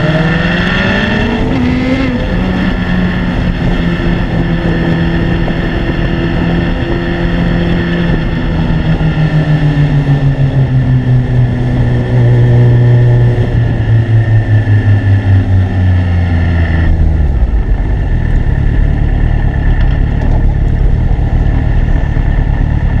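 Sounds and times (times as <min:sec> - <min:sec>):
wind and road rush: 0:00.0 - 0:23.0.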